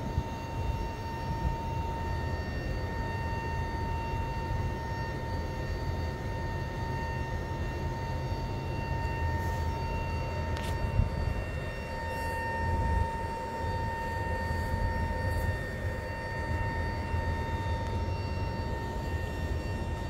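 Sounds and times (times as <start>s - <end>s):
hydraulic drive whine: 0.0s - 20.0s.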